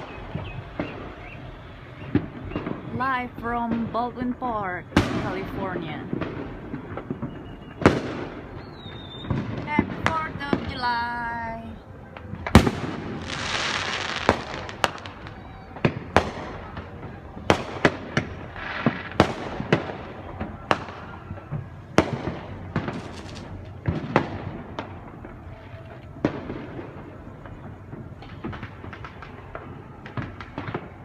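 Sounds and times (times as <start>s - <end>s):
crackling hiss of fireworks: 0.0s - 31.0s
fireworks bangs and pops: 0.0s - 31.0s.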